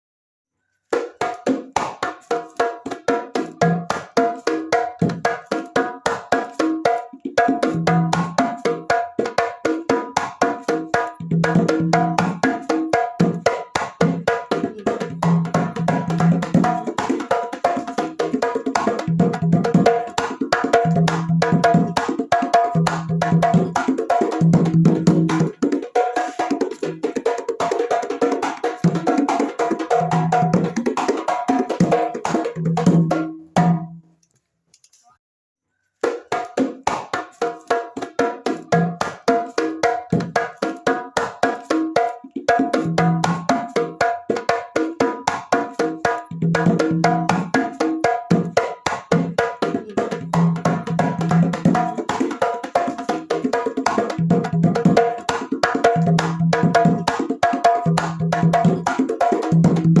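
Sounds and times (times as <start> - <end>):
hand drums played fast: 0.9 - 34.0, 36.0 - 60.0.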